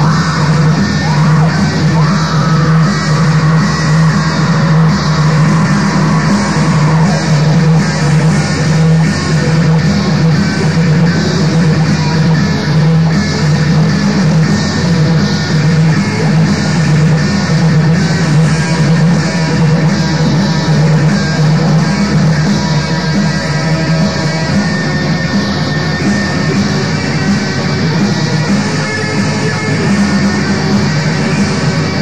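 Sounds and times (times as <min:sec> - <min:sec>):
distorted electric guitar: 0:00.0 - 0:32.0
drums: 0:00.0 - 0:32.0.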